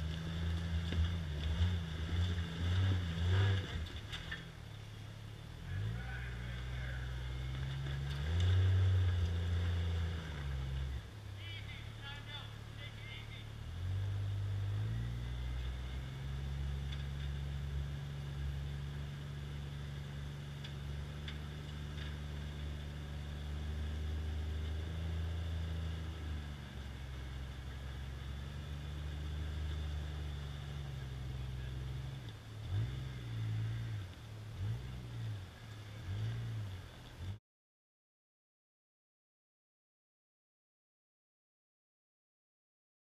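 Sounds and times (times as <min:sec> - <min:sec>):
buggy engine revving: 0:00.0 - 0:37.4.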